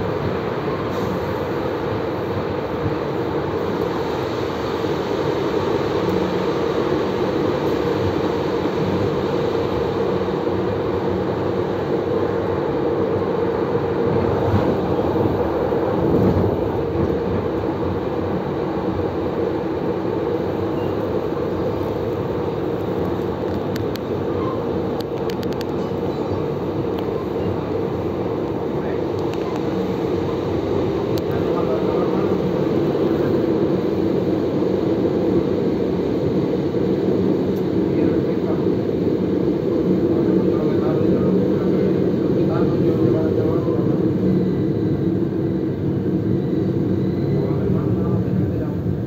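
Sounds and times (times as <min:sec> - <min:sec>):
constant hum: 0:00.0 - 0:49.0
train rumble: 0:00.0 - 0:49.0.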